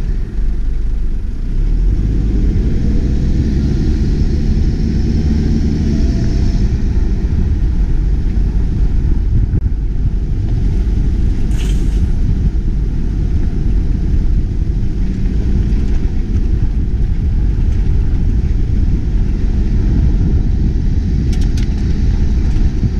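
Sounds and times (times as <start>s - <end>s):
truck driving on gravel: 0.0s - 22.9s.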